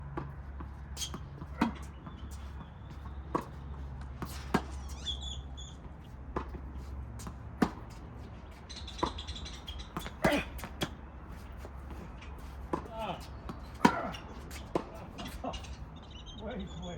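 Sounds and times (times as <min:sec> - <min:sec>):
tennis ball bouncing on court: 0:00.0 - 0:15.8
tennis ball hitting racket: 0:00.1 - 0:15.8.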